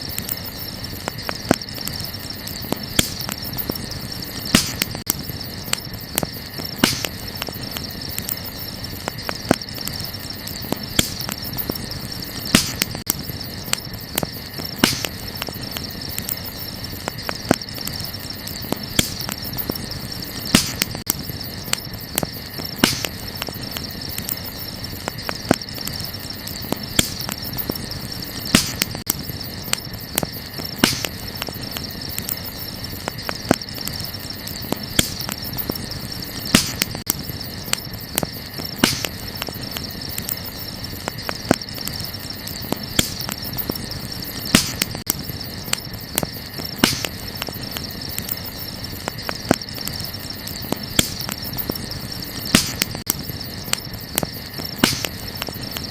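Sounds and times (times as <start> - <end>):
night insects chirring: 0.0 - 55.9
wood fire crackling and popping: 0.0 - 55.9.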